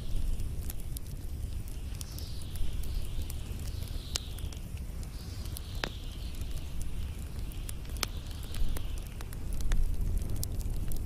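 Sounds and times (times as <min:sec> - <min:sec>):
fire crackling and popping: 0:00.0 - 0:11.0
low rumble of flames: 0:00.0 - 0:11.0.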